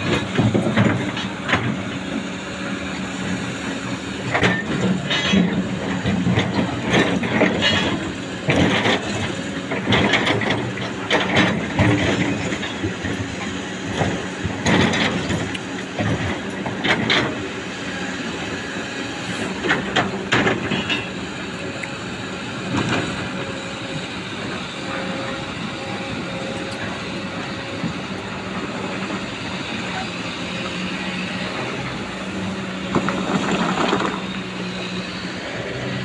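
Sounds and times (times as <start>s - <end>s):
excavator diesel engine droning: 0.0s - 36.0s.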